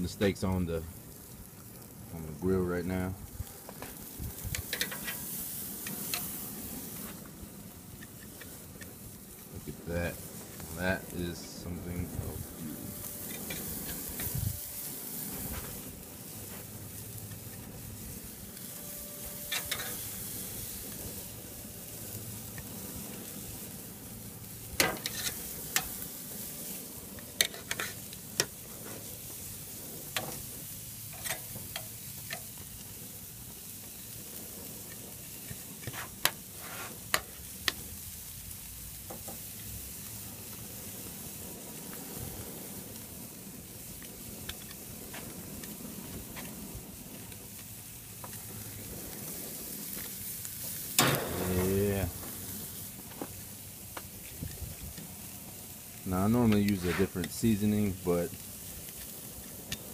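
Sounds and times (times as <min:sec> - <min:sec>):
steaks sizzling on a grill: 0:00.0 - 0:59.9.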